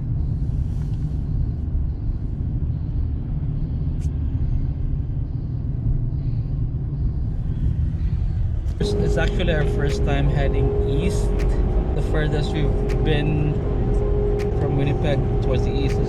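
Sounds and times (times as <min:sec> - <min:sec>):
road and engine rumble in cab: 0:00.0 - 0:16.0.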